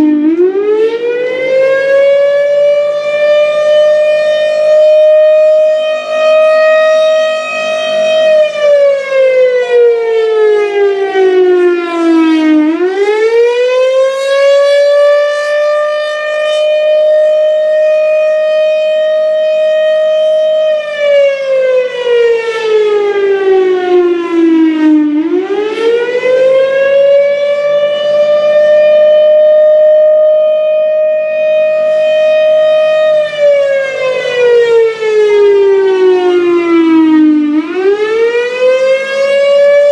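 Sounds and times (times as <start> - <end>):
tornado siren howling: 0.0 - 39.9.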